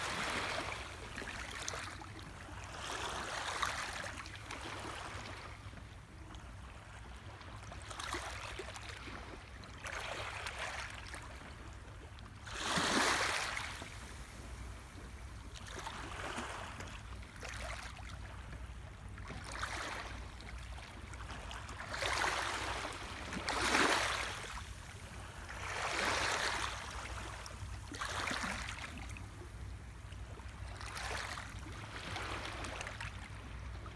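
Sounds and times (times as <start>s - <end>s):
small waves lapping on shore: 0.0s - 33.9s.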